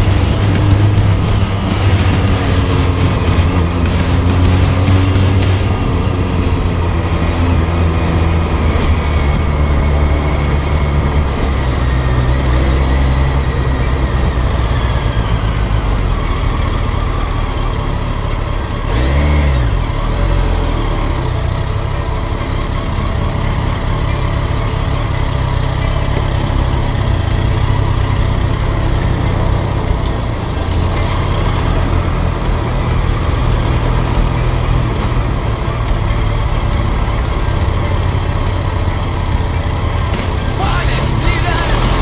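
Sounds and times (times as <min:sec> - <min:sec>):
motorcycle engine running: 0:00.0 - 0:42.0
traffic noise: 0:00.0 - 0:42.0.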